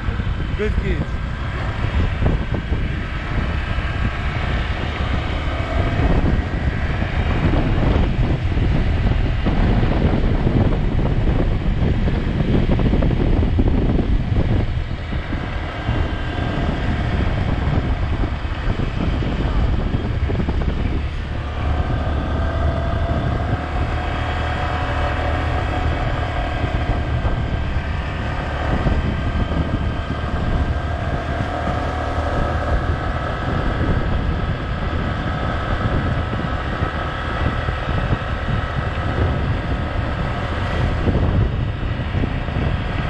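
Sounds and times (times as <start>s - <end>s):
motorbike engine: 0.0s - 43.0s
wind buffeting microphone: 0.0s - 43.0s.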